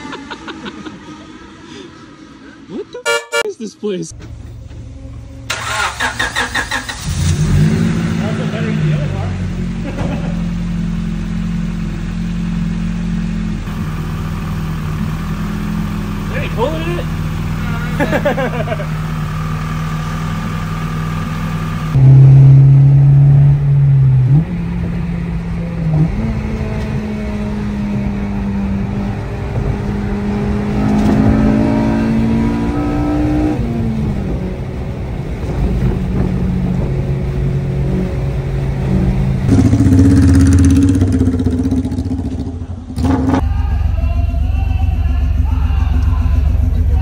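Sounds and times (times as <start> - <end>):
engines revving: 4.8 - 43.6.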